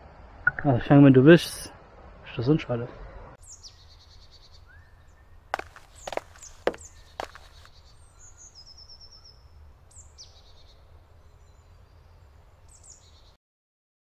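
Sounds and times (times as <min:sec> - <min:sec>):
faint songbird chirps and trill: 0:00.4 - 0:13.4.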